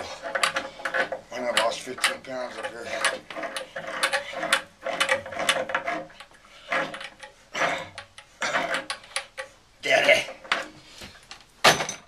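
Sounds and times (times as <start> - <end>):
hand tools and pipe fittings clattering: 0.0 - 12.0.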